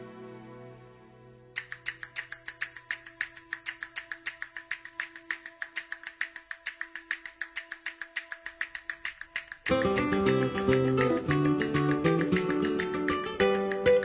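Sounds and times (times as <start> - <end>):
faint held music notes: 1.6 - 14.0
rapid clicks: 1.6 - 14.0.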